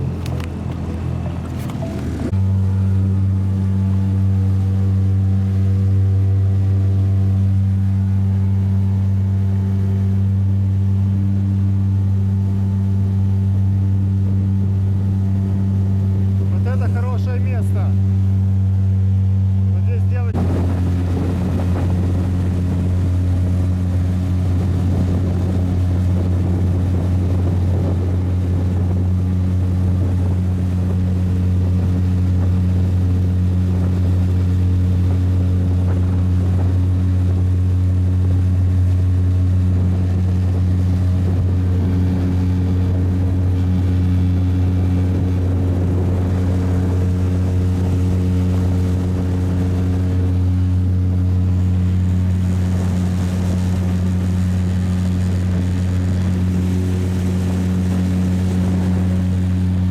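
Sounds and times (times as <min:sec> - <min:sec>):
motorboat engine droning: 0:00.0 - 0:59.9.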